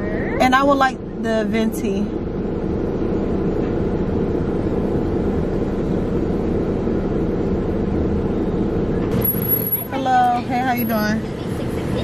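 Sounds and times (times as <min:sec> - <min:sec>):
car idling cabin rumble: 0:00.0 - 0:12.0.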